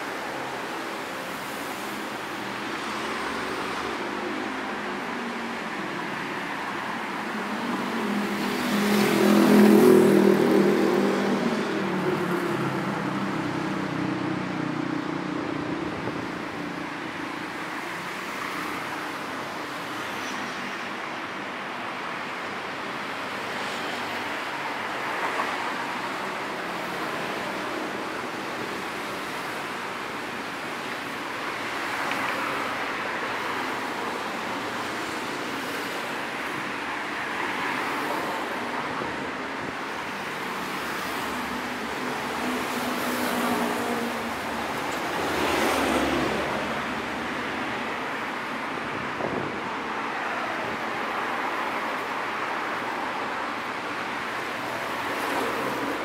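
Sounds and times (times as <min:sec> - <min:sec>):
passing car noise: 0:00.0 - 0:56.0.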